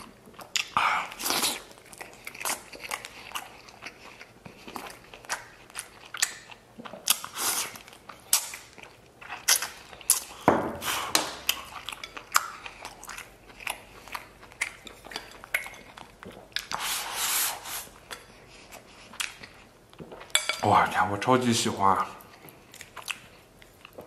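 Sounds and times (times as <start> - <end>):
person chewing food: 0.0 - 20.6, 22.0 - 24.0.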